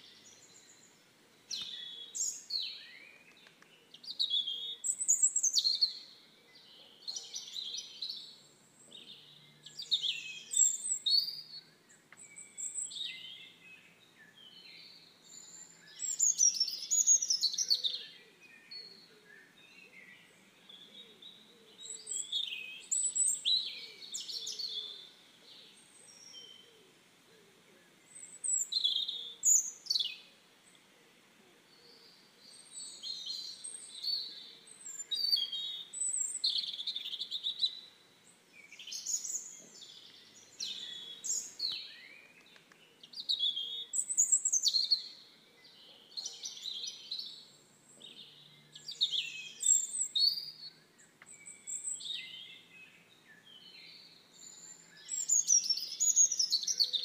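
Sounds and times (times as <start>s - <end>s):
birds chirping and trilling: 0.0s - 27.0s, 27.8s - 31.0s, 31.6s - 57.0s.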